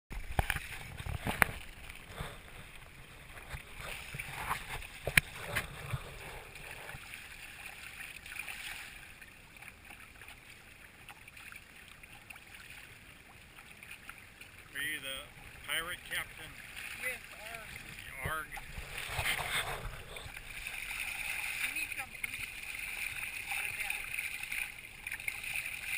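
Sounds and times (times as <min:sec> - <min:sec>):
water splashing along hull: 0:00.1 - 0:25.9.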